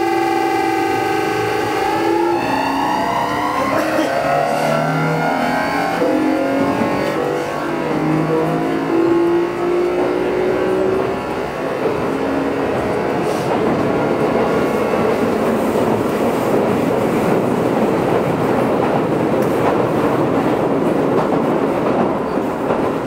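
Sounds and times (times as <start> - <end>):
electric train inverter whine: 0.0 - 20.5.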